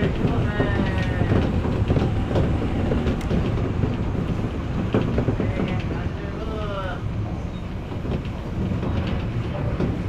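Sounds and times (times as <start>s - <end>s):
train rumbling at speed: 0.0s - 10.0s
wheels clicking over rail joints: 0.0s - 10.0s.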